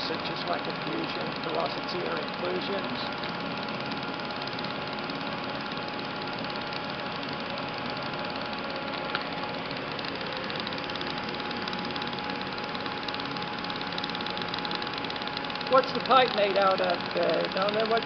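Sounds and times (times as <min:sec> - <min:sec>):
steady hum: 0:00.0 - 0:18.0
welding arc hiss and buzz: 0:00.0 - 0:18.0.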